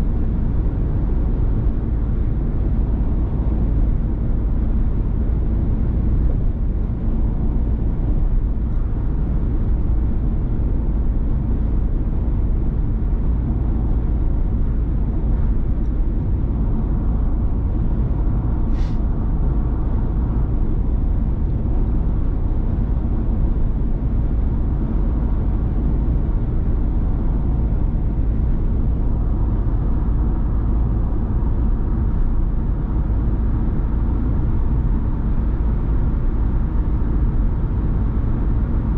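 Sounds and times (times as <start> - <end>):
van engine and road noise: 0.0 - 38.9.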